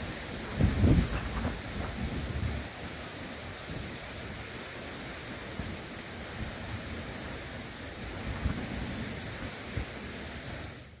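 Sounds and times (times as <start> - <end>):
wind buffeting microphone: 0.0 - 4.6, 5.4 - 10.6
outdoor hiss: 0.0 - 11.0.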